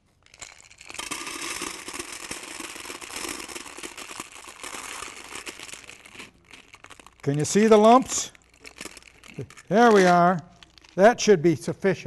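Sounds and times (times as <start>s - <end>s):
small pieces rattling onto metal: 0.3s - 11.0s.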